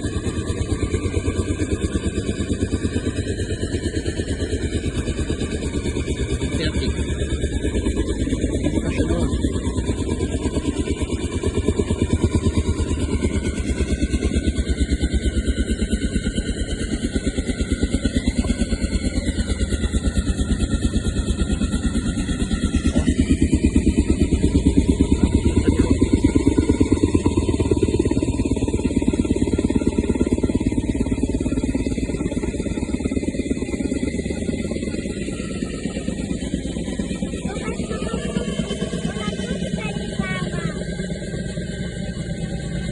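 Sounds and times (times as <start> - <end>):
helicopter engine noise: 0.0 - 42.9
helicopter rotor beating: 0.0 - 42.9.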